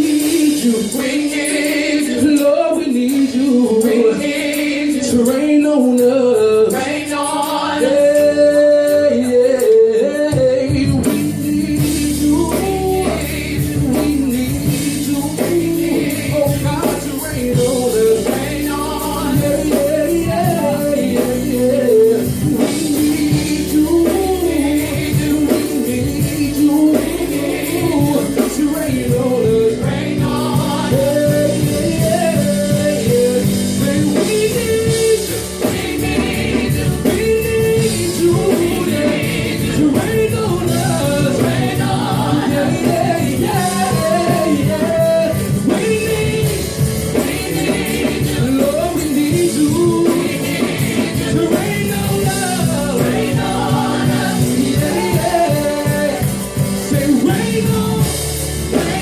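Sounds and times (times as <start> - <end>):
band playing bass keys and drums: 0.0 - 59.0
gospel choir and lead vocal: 0.0 - 59.0.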